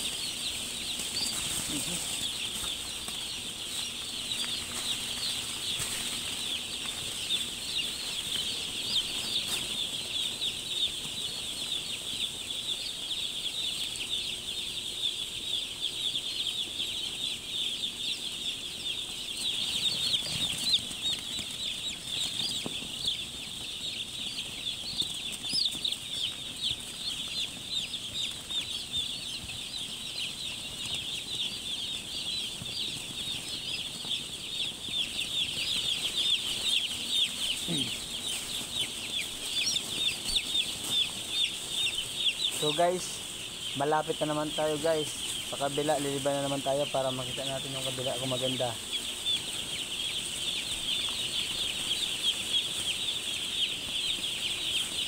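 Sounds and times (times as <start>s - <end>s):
chicks peeping: 0.0s - 55.0s.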